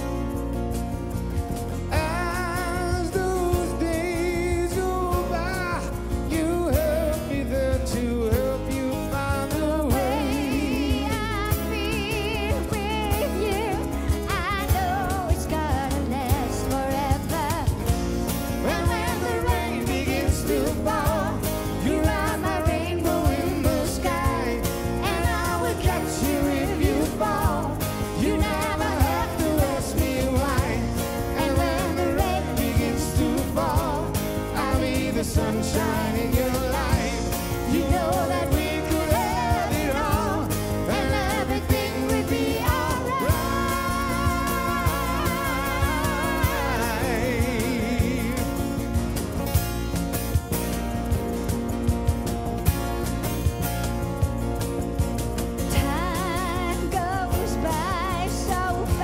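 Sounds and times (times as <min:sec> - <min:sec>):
acoustic guitars strummed: 0:00.0 - 0:59.0
bass: 0:00.0 - 0:59.0
hand percussion: 0:00.0 - 0:59.0
man singing with vibrato: 0:01.8 - 0:49.7, 0:55.6 - 0:59.0.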